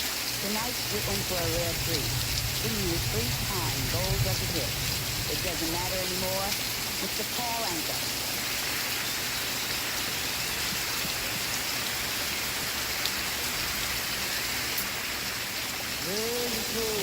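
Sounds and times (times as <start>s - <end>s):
steady rain falling: 0.0s - 17.0s
raindrop ticks: 0.3s - 15.0s.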